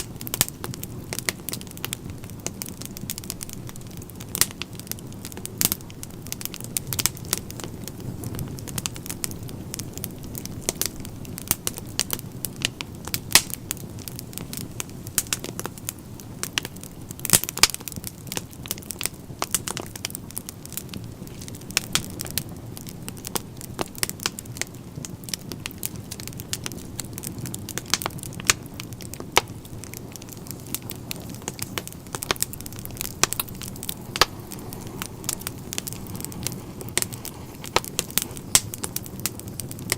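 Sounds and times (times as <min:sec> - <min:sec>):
fire crackling and popping: 0:00.0 - 0:39.9
fire flames rushing: 0:00.0 - 0:39.9.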